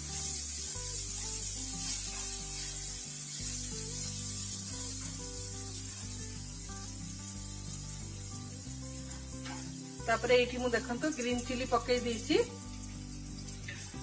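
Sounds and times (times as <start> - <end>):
background music with held notes: 0.0 - 14.0
vegetables sizzling in oil: 0.0 - 14.0.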